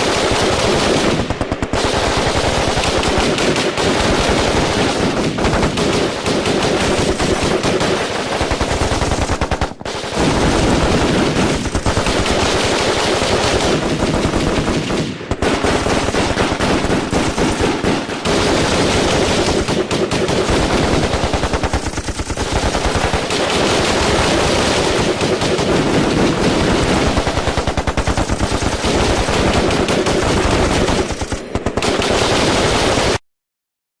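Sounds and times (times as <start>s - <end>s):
automatic gunfire bursts: 0.0s - 33.2s.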